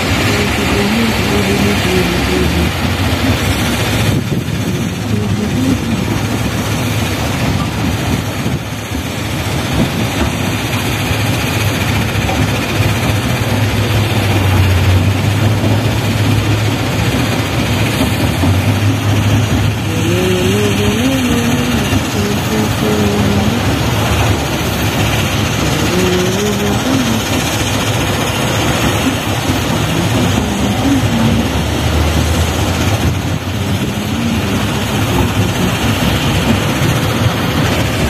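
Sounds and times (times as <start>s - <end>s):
dense rushing noise: 0.0s - 38.0s
heavy diesel engine running: 0.0s - 38.0s.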